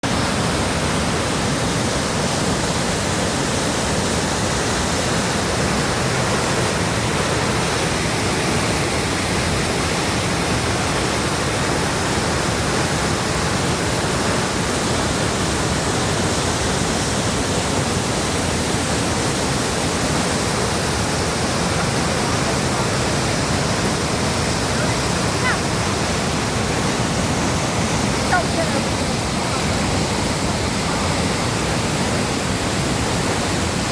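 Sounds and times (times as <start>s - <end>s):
mountain stream rushing: 0.0s - 33.9s.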